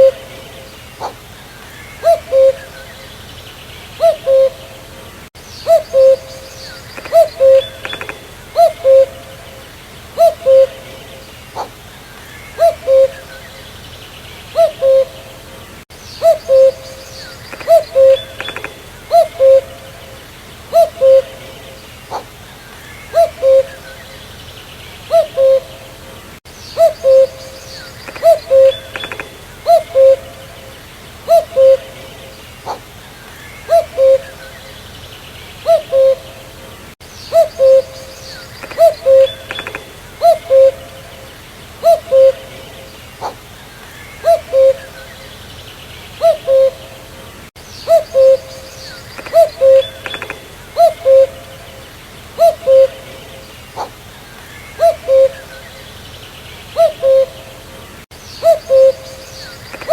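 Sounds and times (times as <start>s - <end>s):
cuckoo calling: 0.0s - 3.3s, 3.9s - 13.8s, 14.5s - 24.3s, 25.1s - 34.8s, 35.6s - 45.4s, 46.2s - 56.0s, 56.7s - 59.9s
other birds chirping: 0.0s - 59.9s.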